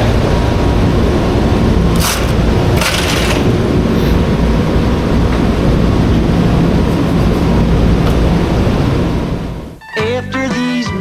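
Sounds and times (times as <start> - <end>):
vehicle running low rumble: 0.0 - 9.8.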